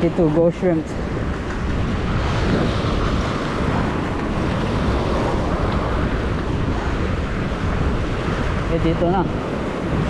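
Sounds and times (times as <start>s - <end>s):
surf washing in: 0.0s - 10.0s
wind rumbling on microphone: 0.0s - 10.0s.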